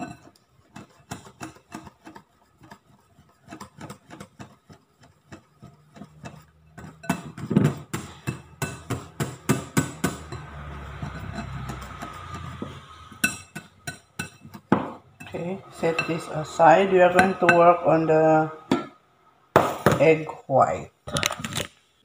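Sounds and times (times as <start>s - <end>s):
whisk clinking against bowl: 0.0s - 18.0s.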